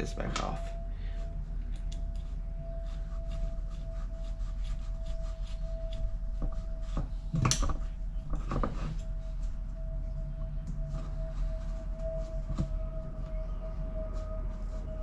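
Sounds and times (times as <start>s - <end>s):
faint steady whine: 0.0s - 15.0s
steady hum: 0.0s - 15.0s.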